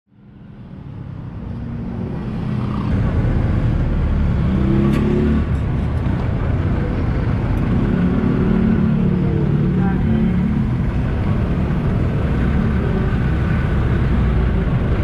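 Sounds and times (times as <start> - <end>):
traffic rumble: 0.1 - 15.0.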